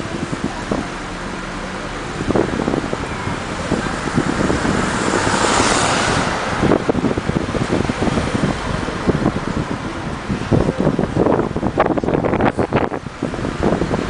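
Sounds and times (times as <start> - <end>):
car tyre and engine rumble: 0.0 - 14.0
passing vehicle rush: 0.0 - 14.0
wind buffeting microphone: 0.0 - 14.0.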